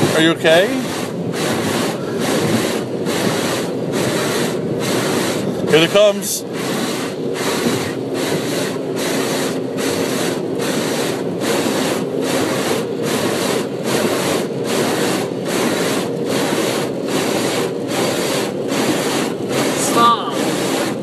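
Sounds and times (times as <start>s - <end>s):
car wash rushing and scrubbing: 0.0s - 21.0s
low machine hum: 0.0s - 21.0s.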